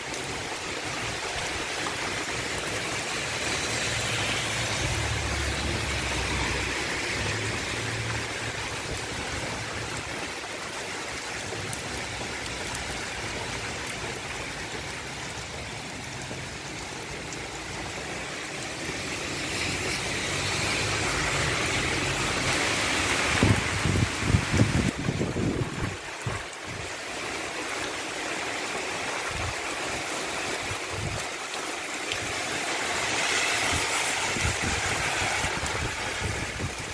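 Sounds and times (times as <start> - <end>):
car tyres swishing through water: 0.0 - 36.9
heavy rain hissing: 0.0 - 36.9.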